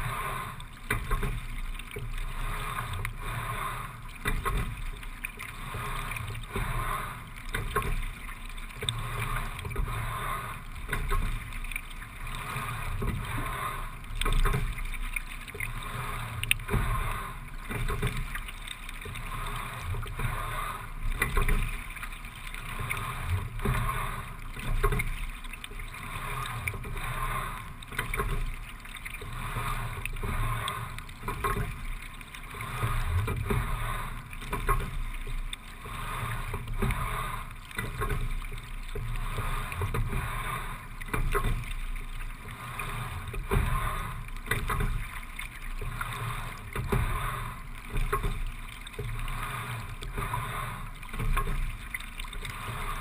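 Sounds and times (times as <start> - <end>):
rowing clicks and knocks: 0.0 - 53.0
water washing along a hull: 0.0 - 53.0.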